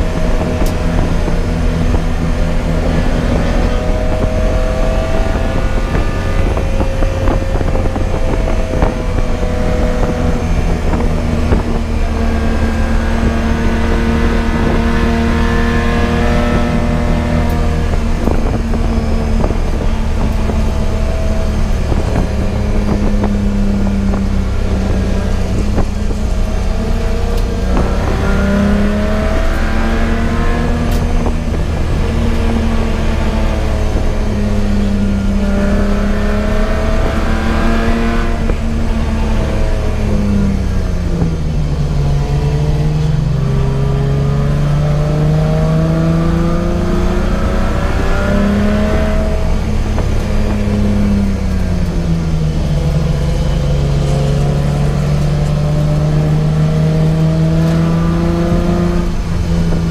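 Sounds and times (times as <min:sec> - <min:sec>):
race car engine shifting gears: 0:00.0 - 0:59.9.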